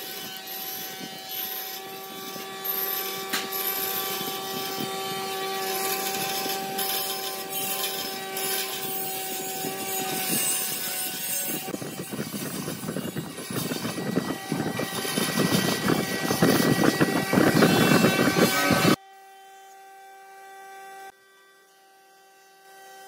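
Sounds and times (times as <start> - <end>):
saw blade rasping through wood: 0.0 - 19.0
bandsaw motor humming: 0.0 - 23.0.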